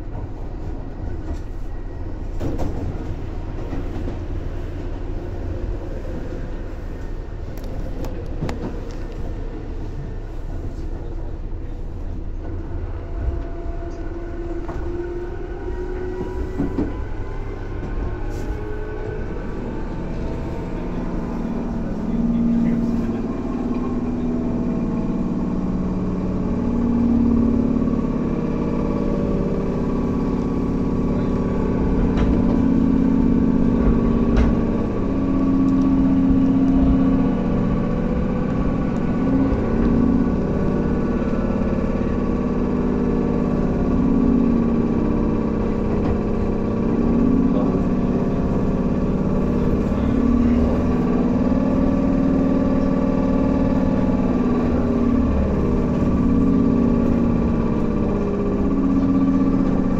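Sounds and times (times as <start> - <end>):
electric train running hum: 0.0 - 59.9.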